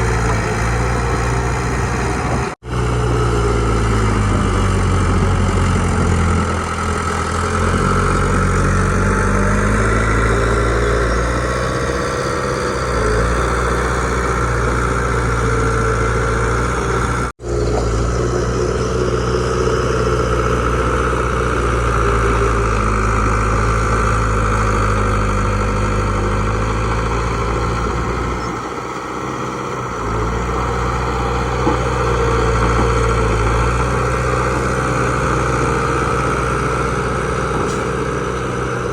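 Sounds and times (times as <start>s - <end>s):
bulldozer diesel engine: 0.0s - 38.9s
dump truck engine: 0.0s - 38.9s.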